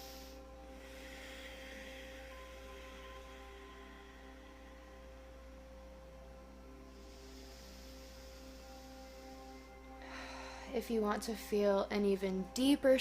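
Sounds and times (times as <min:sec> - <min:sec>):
ambient drone music: 0:00.0 - 0:13.0
low hum: 0:00.0 - 0:13.0.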